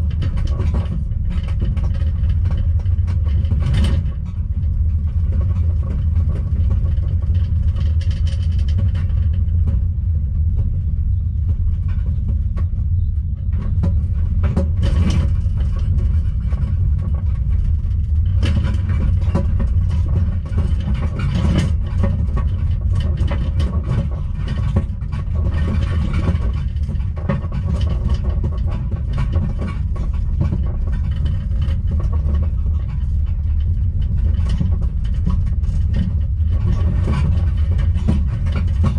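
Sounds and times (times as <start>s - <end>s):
knocks and rattles: 0.0s - 38.9s
low road rumble: 0.0s - 38.9s.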